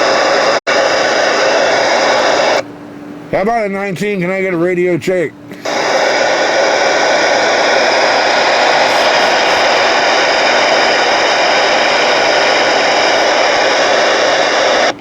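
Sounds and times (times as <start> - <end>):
radio static hiss: 0.0 - 2.6, 3.3 - 15.0.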